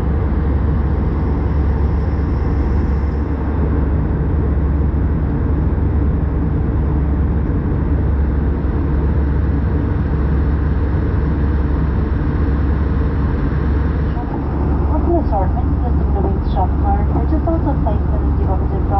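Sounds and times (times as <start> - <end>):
aircraft cabin engine rumble: 0.0 - 18.9.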